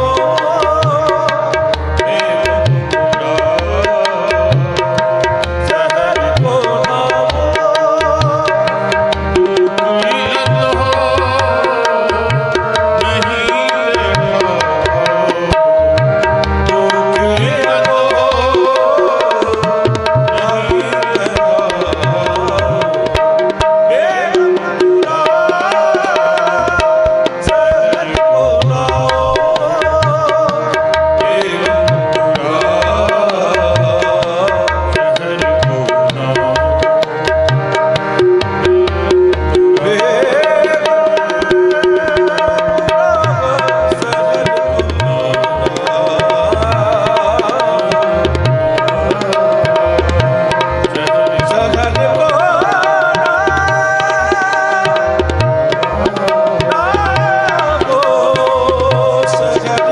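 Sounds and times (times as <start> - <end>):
men singing: 0.0 - 37.6, 39.8 - 59.9
harmonium chords: 0.0 - 59.9
tabla rhythm: 0.0 - 59.9.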